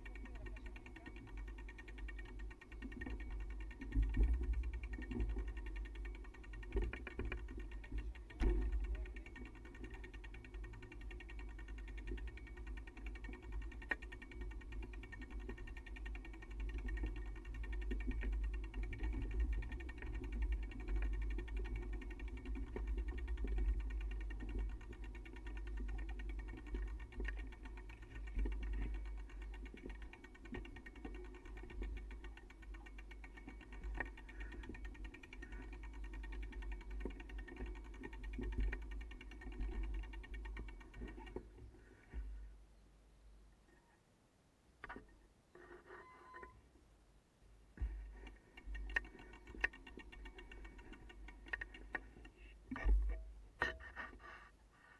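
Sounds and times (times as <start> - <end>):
bicycle rumbling on dirt trail: 0.0 - 42.5, 47.8 - 53.4
bike freewheel ticking: 0.0 - 42.5, 47.8 - 53.8
bike rattling: 0.0 - 42.5, 47.8 - 53.9.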